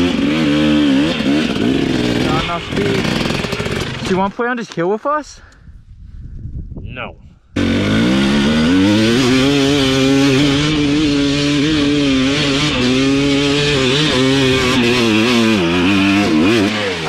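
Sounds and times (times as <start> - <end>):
dirt bike engine revving: 0.0 - 4.4, 7.6 - 17.0.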